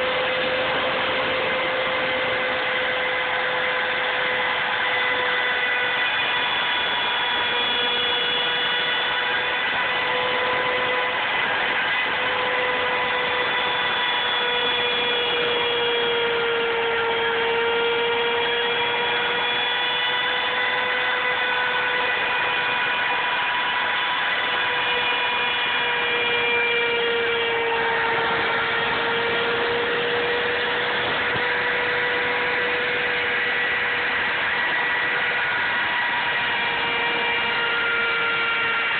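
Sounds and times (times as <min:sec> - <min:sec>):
router engraving wood whine: 0:00.0 - 0:38.9.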